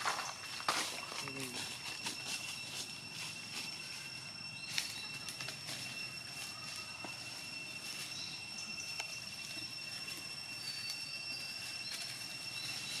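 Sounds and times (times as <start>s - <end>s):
insects droning: 0.0s - 13.0s
leaves rustling underfoot: 0.0s - 13.0s.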